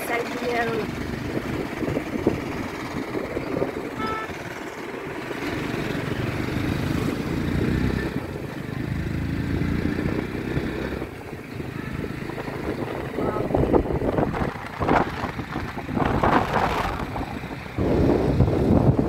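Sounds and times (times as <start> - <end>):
air and road noise: 0.0 - 19.0
motorcycle engine running: 0.0 - 19.0.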